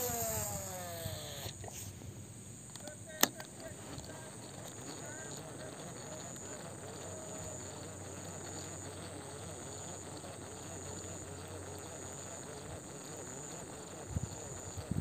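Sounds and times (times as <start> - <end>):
insects chirring in high trill: 0.0 - 15.0
low background hum: 0.0 - 15.0.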